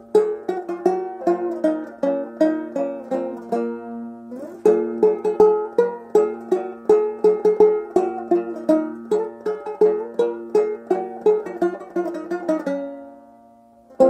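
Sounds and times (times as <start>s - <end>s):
banjo picking a slow melody: 0.0s - 14.0s.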